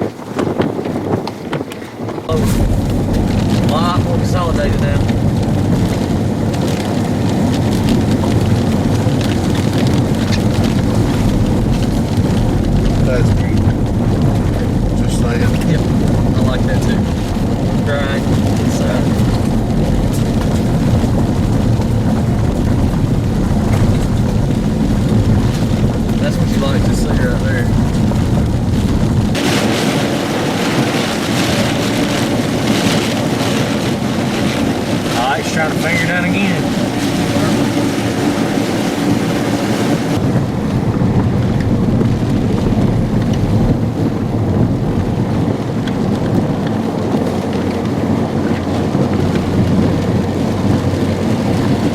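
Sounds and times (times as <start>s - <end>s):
wind rumble: 0.0s - 51.9s
vehicle running: 2.0s - 51.9s
raindrops ticking: 2.3s - 51.9s.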